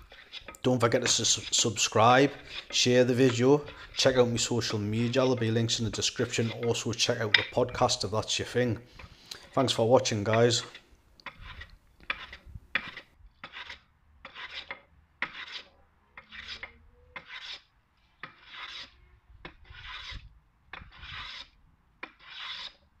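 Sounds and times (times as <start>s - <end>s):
hand plane shaving wood: 0.0s - 8.0s, 9.4s - 19.0s, 19.6s - 20.2s, 20.8s - 22.8s.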